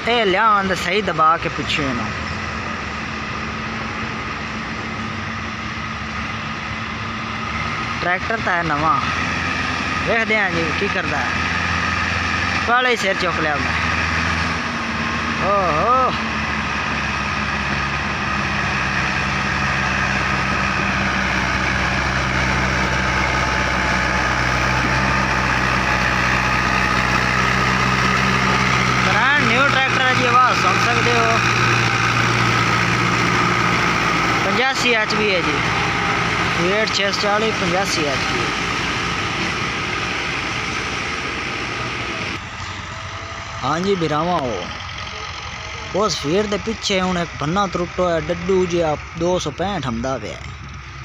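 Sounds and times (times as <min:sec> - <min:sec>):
diesel tractor engine running: 0:00.0 - 0:51.0.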